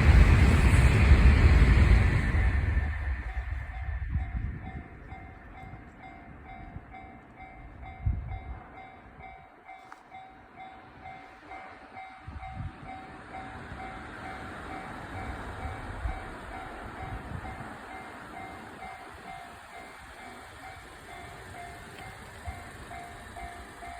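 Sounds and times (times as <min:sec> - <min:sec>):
train rushing: 0:00.0 - 0:23.9
level crossing warning bell: 0:03.7 - 0:23.9.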